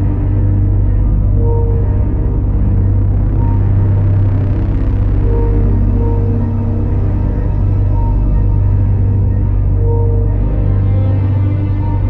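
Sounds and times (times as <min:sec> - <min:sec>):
dark ambient music drone: 0:00.0 - 0:12.0.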